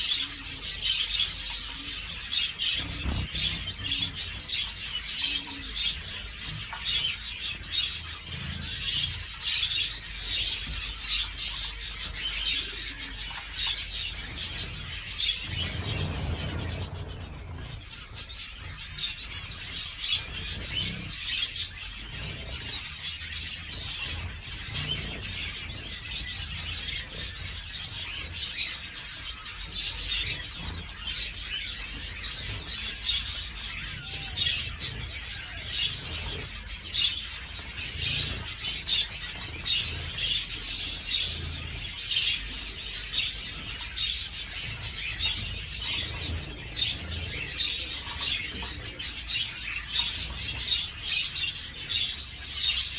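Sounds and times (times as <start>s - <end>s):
finches chirping: 0.0s - 52.9s.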